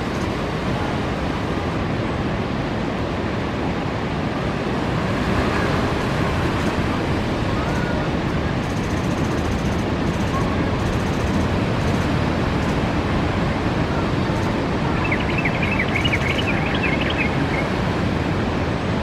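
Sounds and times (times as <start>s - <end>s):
ocean surf: 0.0s - 19.0s
wind on microphone: 0.0s - 19.0s.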